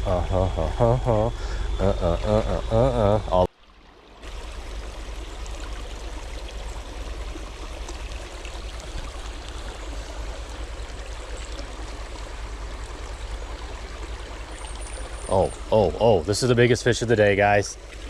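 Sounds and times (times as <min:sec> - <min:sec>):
small stream flowing: 0:00.0 - 0:18.0.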